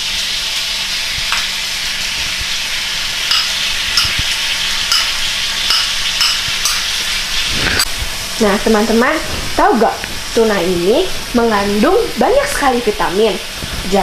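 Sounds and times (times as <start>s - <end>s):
food sizzling in pan: 0.0s - 14.0s.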